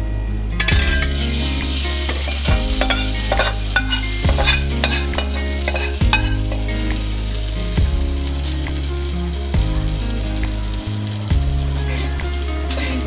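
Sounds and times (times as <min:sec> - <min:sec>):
low hum: 0:00.0 - 0:13.0
steady hiss: 0:00.4 - 0:13.0.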